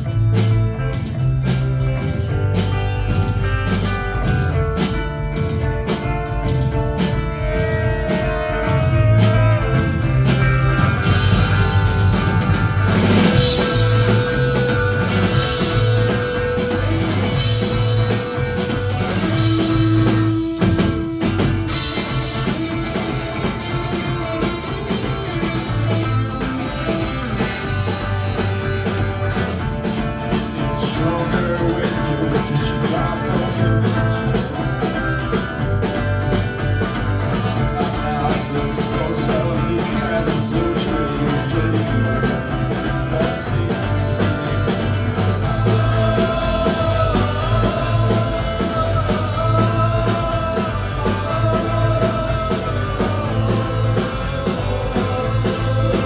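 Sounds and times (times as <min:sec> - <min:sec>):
electric guitars: 0:00.0 - 0:56.0
fast drum beat: 0:00.0 - 0:56.0.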